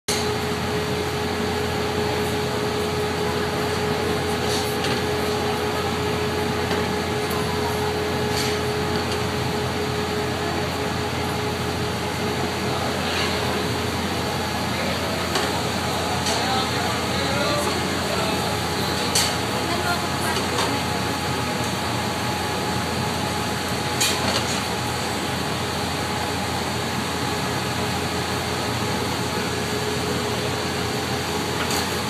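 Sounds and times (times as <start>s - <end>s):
furnace and blowers running: 0.1s - 32.0s
steady hum: 0.1s - 32.0s.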